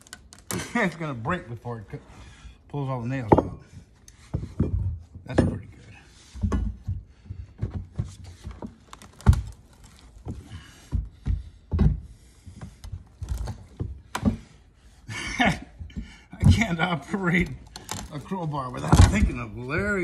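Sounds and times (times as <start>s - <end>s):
crowbar prying up wood: 3.1s - 14.6s, 15.3s - 20.0s
hard thuds: 3.2s - 14.6s, 15.4s - 20.0s.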